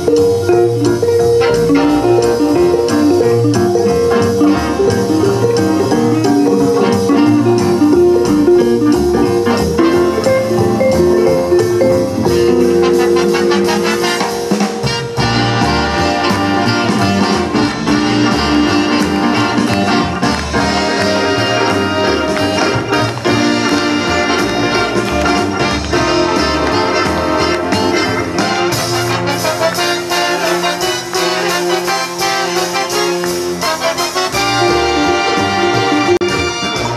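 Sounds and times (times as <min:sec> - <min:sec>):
big band jazz: 0:00.0 - 0:36.9.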